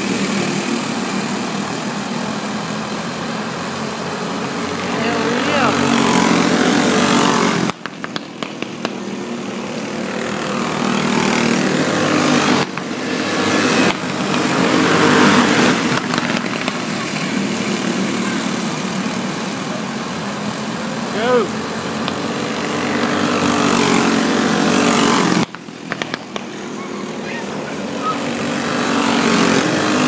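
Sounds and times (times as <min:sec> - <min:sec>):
go-kart engines racing past: 0:00.0 - 0:30.0.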